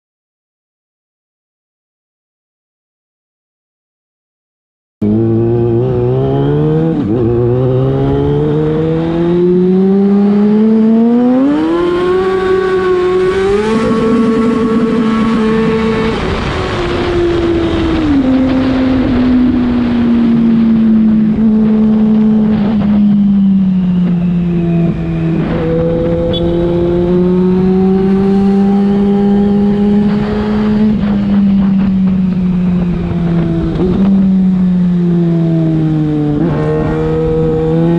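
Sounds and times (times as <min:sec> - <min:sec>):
motorcycle engine accelerating: 0:05.0 - 0:37.9.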